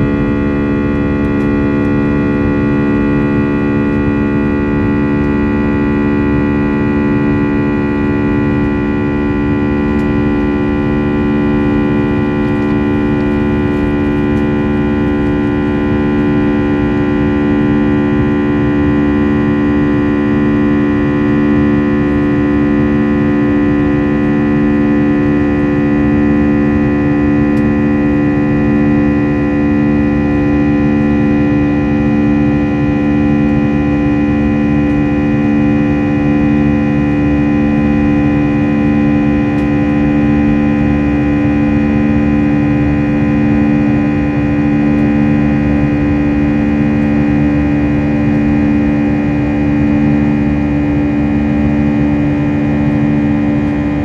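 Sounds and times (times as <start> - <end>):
airflow rushing in cabin: 0.0 - 54.0
jet engines droning: 0.0 - 54.0.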